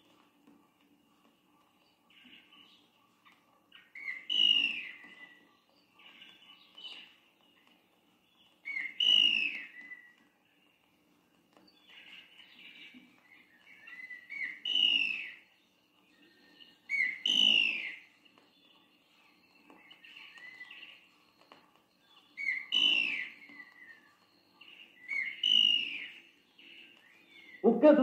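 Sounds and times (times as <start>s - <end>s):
soft bird chirps: 0.0s - 28.0s.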